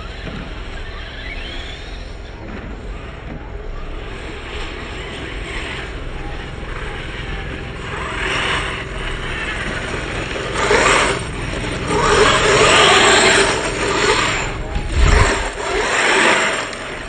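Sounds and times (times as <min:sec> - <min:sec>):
radio-controlled cars whirring past: 0:00.0 - 0:17.0.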